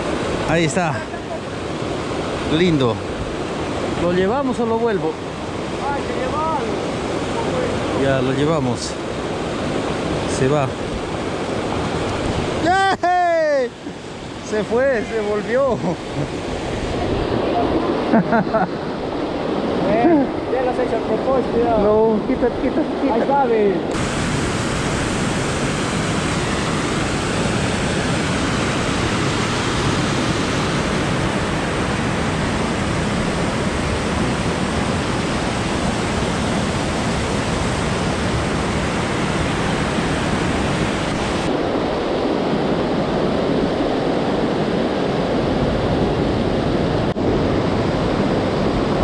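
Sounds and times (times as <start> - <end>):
river water rushing over rocks: 0.0 - 49.0.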